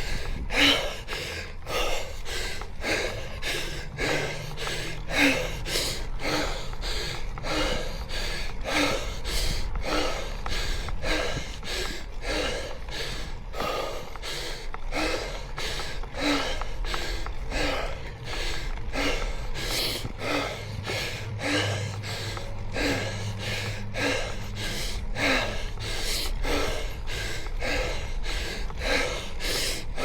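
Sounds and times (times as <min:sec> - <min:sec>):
heavy rapid breathing: 0:00.0 - 0:30.0
steady low rumble: 0:00.0 - 0:30.0.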